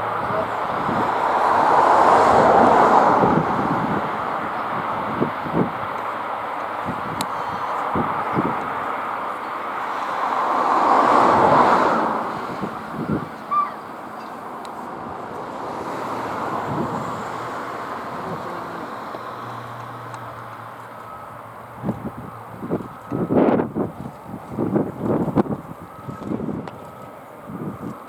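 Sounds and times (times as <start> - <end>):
turboprop aircraft taking off: 0.0 - 28.0.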